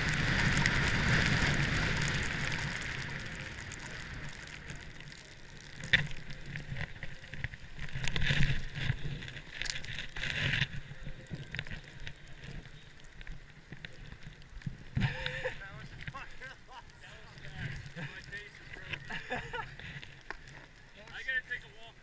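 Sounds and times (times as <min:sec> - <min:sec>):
ski edges scraping packed snow: 0:00.0 - 0:21.6.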